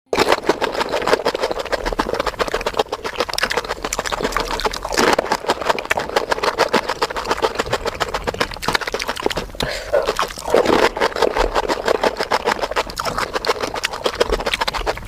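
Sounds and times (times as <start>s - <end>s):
chewing crunchy food: 0.1s - 15.0s.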